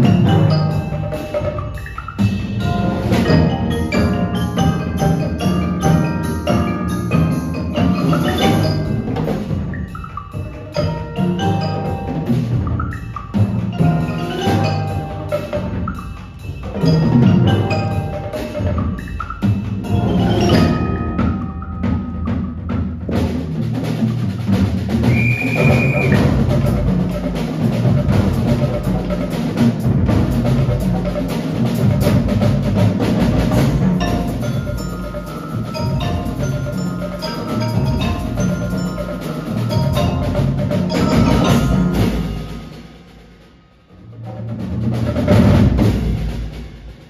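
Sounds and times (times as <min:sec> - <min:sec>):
bright percussion strikes: 0:00.0 - 0:23.8, 0:24.9 - 0:47.0
percussion ensemble drumming: 0:00.0 - 0:47.0.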